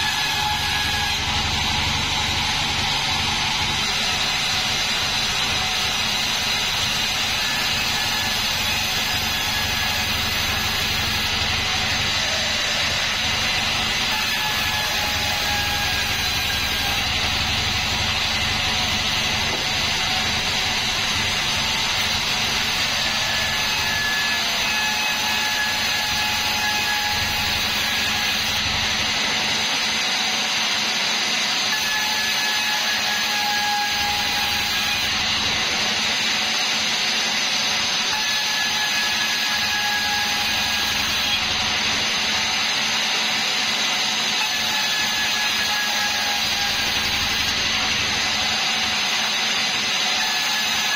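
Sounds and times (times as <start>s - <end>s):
faint saw whine: 0.0s - 50.9s
sawmill blade cutting log: 0.0s - 50.9s.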